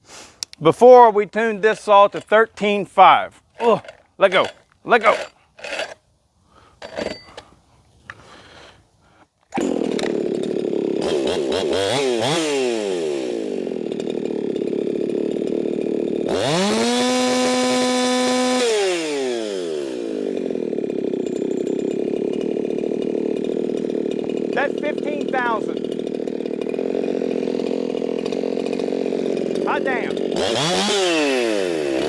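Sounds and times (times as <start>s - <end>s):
chainsaw revving: 1.3s - 8.9s, 9.5s - 32.0s.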